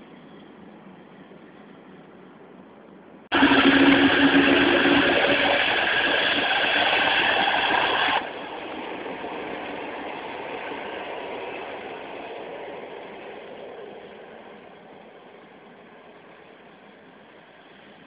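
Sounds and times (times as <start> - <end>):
train wheels rattling on track: 3.3 - 18.0.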